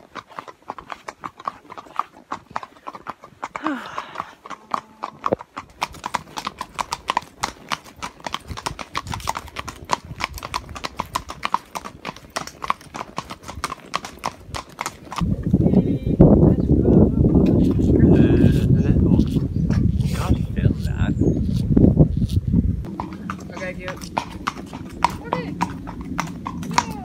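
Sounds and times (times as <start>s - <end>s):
horses clip-clopping on pavement: 0.0s - 21.4s, 22.1s - 27.0s.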